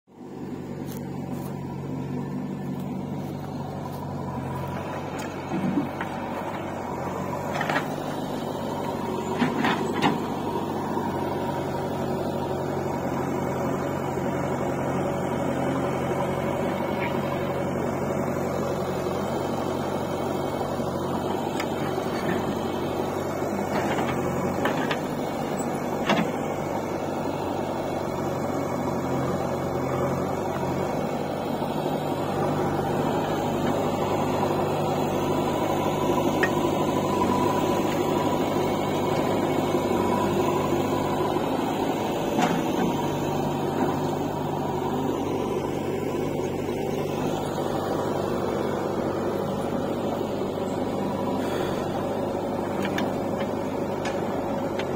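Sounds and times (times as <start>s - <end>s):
diesel engines running: 0.1s - 54.9s.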